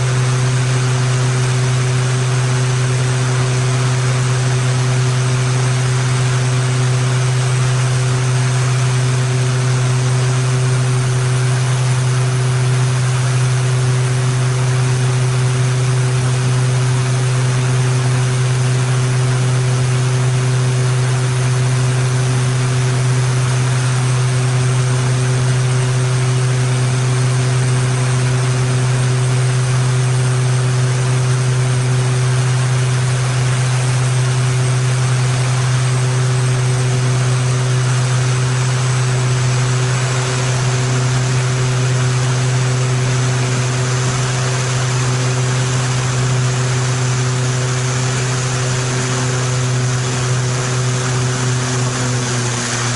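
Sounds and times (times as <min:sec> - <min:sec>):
propeller drone: 0:00.0 - 0:52.9.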